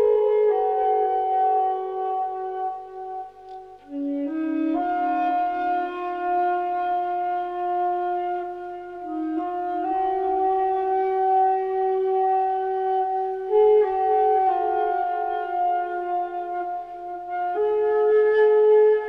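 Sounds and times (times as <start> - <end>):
slow wind instrument music: 0.0 - 19.0.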